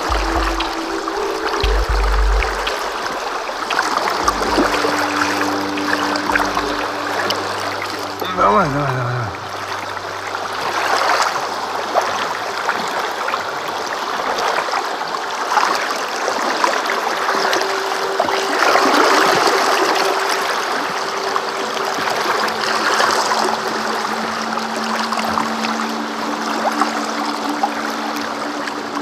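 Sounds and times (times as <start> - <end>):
river water rushing against boat: 0.0 - 29.0.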